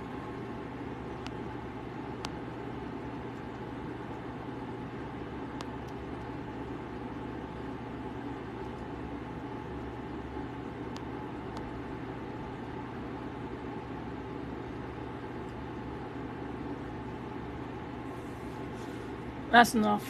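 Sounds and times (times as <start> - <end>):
low hum and rumble: 0.0 - 20.0.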